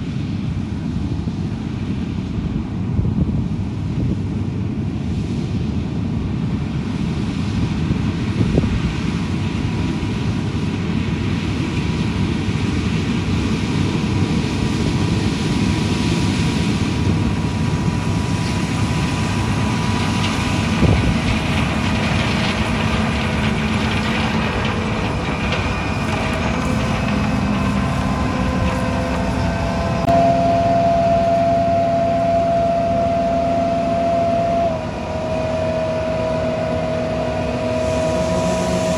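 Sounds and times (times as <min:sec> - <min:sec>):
large vehicle engine rumbling: 0:00.0 - 0:38.9.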